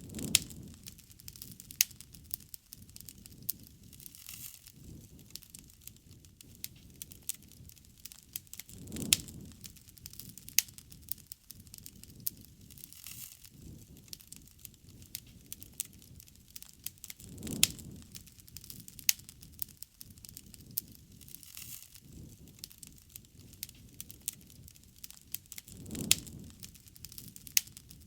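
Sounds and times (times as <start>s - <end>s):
campfire crackling and popping: 0.0s - 28.0s
low rush of flame: 0.0s - 28.0s.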